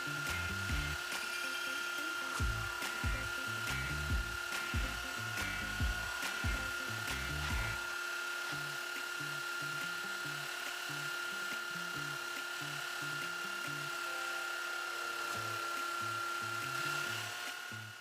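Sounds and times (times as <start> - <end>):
belt sander whining: 0.0 - 18.0.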